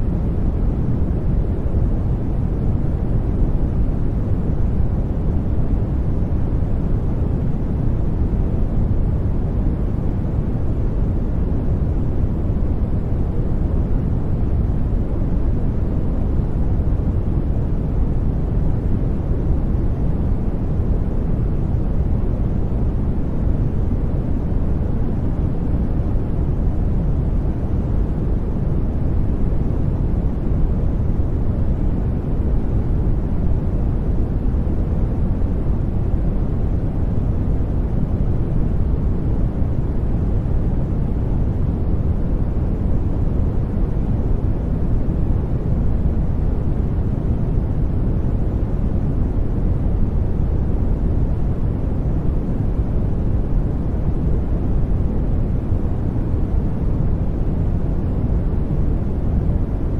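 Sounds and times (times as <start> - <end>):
deep brown noise rumble: 0.0 - 59.9.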